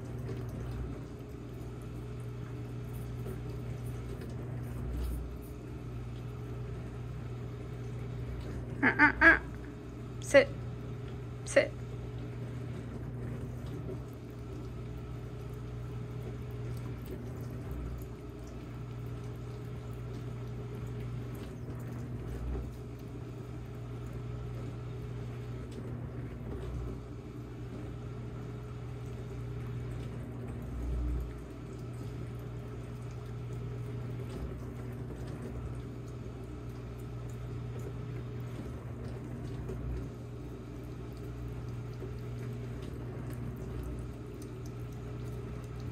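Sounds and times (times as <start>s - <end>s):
appliance humming: 0.0s - 45.9s.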